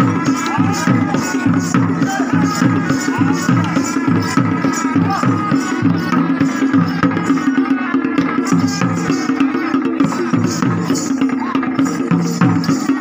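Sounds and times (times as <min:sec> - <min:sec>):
hand drums beaten in rhythm: 0:00.0 - 0:13.0.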